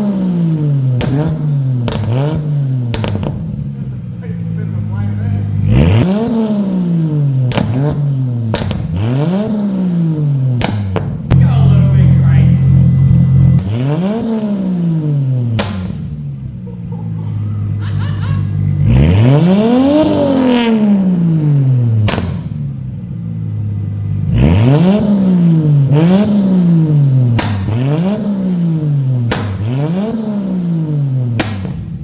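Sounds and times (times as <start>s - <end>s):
car engine idling and revving: 0.0s - 32.0s
loud exhaust bangs: 0.0s - 32.0s.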